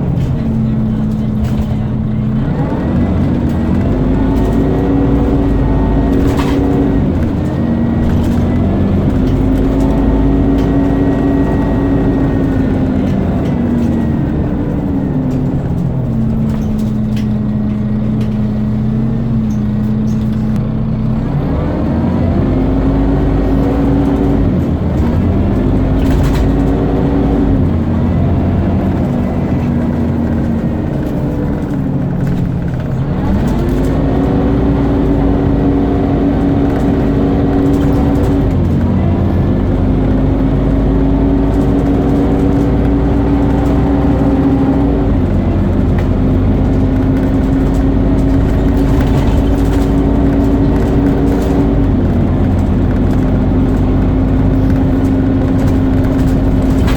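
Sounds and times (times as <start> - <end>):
bus engine accelerating: 0.0 - 56.9.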